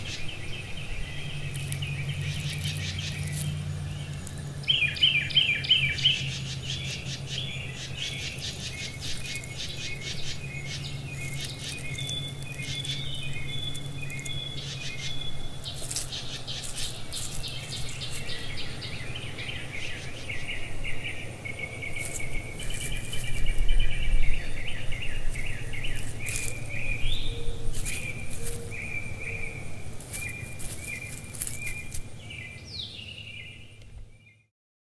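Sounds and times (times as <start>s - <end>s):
steady low hum: 0.0s - 34.2s
songbirds chirping: 0.0s - 34.5s.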